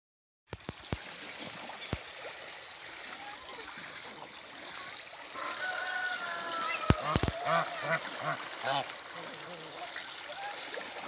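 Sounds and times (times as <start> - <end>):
water splashing and rippling: 0.5 - 11.0.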